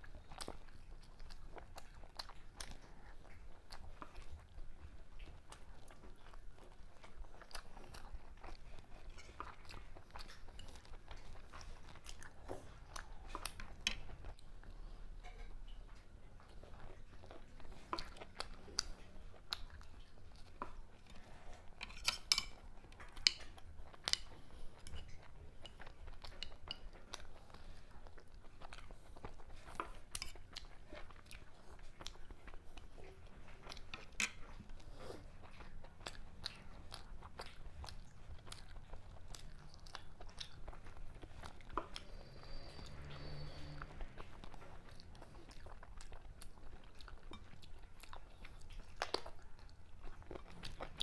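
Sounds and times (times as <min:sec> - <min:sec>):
chewing and crunching bread: 0:00.0 - 0:51.0.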